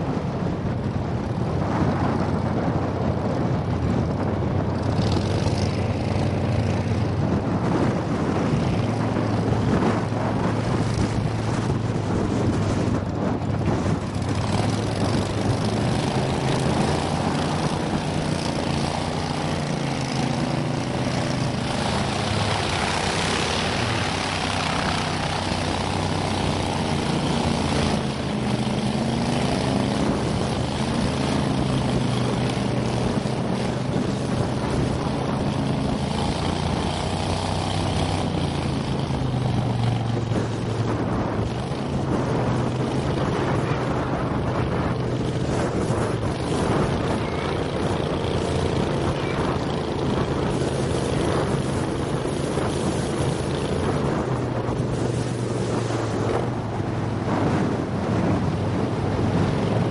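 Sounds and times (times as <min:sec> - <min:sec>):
boat motor droning: 0:00.0 - 0:59.9
wind and water rushing: 0:00.0 - 0:59.9.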